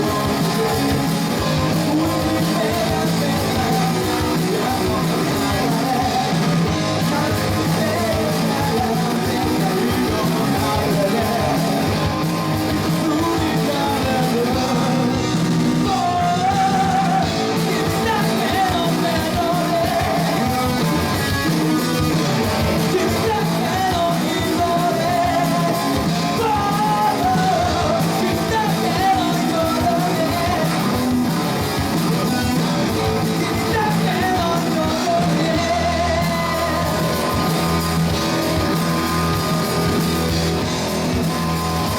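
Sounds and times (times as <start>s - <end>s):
guitar: 0.0s - 41.9s
person singing: 0.0s - 41.9s
rock band music: 0.0s - 41.9s.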